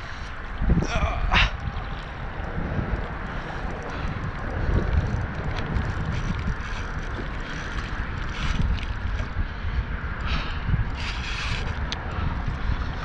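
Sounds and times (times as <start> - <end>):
wind buffeting microphone: 0.0 - 13.0
water splashing against hull: 1.3 - 13.0.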